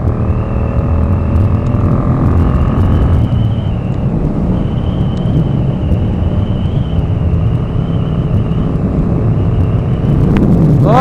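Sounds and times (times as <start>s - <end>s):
motorcycle engine: 0.0s - 11.0s
steady high whine: 0.0s - 11.0s
wind rumble on microphone: 0.0s - 11.0s.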